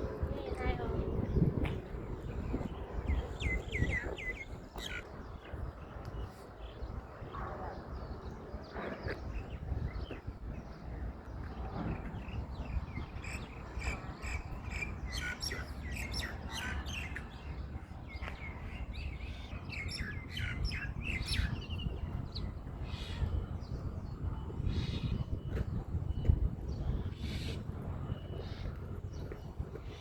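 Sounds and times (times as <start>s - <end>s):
steady low rumble: 0.0s - 30.0s
small birds chirping: 0.3s - 30.0s.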